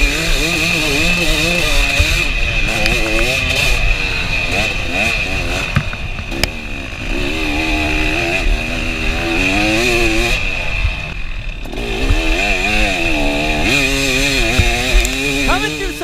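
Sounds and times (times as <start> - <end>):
two-stroke dirt bike engine: 0.0 - 16.0.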